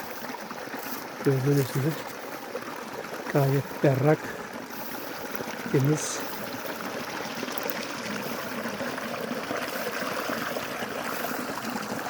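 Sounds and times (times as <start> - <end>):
spring water trickling: 0.0 - 12.0.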